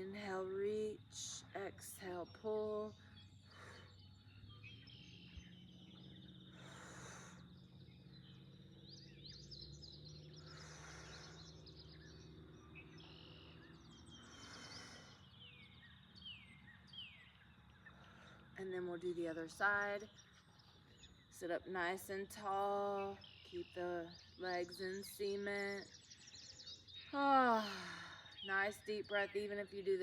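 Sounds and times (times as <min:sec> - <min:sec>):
birds chirping and singing: 0:00.0 - 0:30.0.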